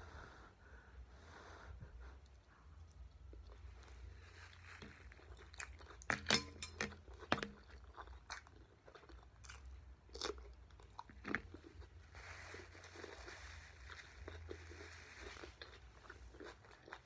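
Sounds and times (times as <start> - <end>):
crunching raw cucumber: 3.2 - 17.0.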